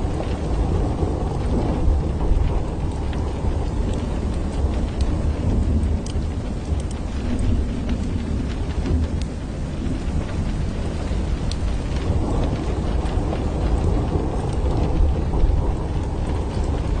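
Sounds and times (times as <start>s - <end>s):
distant thunder rumble: 0.0s - 17.0s
steady rain: 0.0s - 17.0s
drops ticking on window glass: 0.2s - 17.0s.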